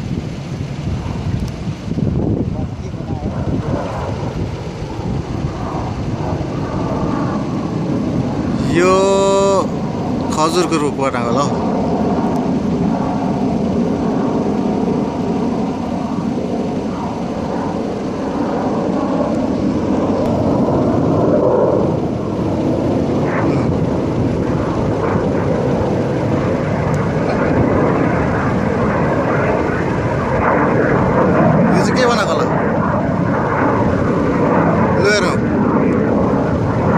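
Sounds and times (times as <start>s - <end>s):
aircraft flying overhead: 0.0s - 36.9s.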